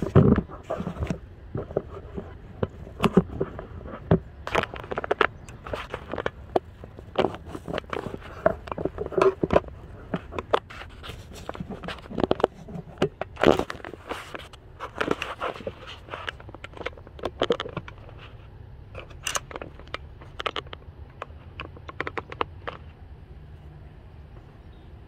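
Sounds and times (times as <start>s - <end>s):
clicks taps and scrapes: 0.0s - 23.0s
low steady hum: 0.0s - 25.0s.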